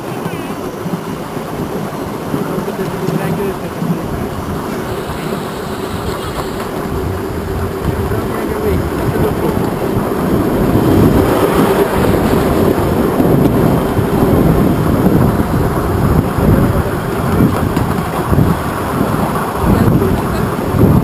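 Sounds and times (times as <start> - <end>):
model tram rumbling on rails: 0.0 - 21.0.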